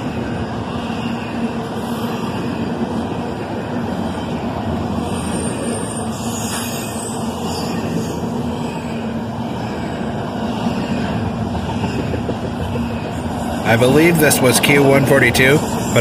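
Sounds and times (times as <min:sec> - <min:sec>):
freight train passing: 0:00.0 - 0:16.0.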